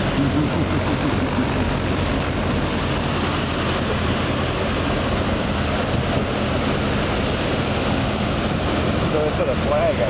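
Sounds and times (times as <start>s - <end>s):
surf rushing: 0.0s - 10.0s.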